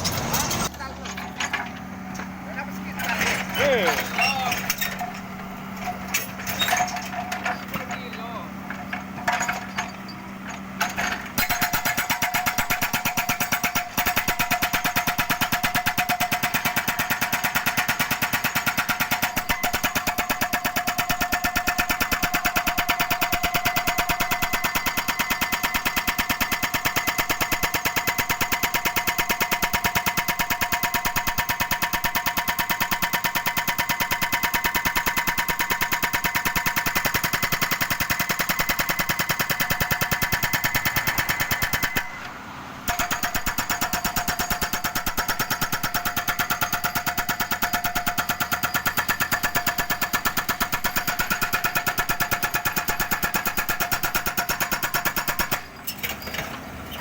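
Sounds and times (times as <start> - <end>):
hydraulic breaker hammering concrete: 3.0 - 42.3, 42.9 - 56.2.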